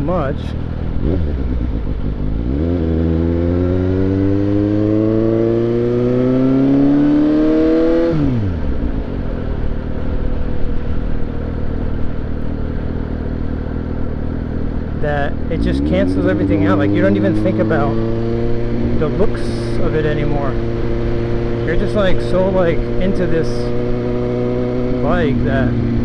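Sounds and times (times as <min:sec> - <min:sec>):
motorcycle engine accelerating: 0:00.0 - 0:26.0
wind and road rush: 0:00.0 - 0:26.0.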